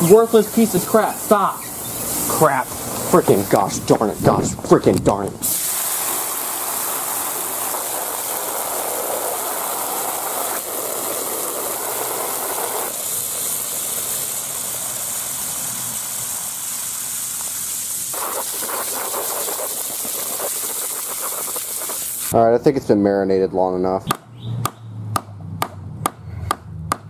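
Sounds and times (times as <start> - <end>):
hose water spray splattering: 0.0 - 22.4.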